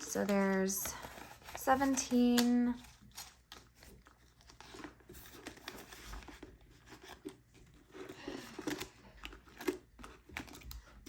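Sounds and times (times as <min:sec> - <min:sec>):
paper banknotes rustling: 0:00.0 - 0:11.0.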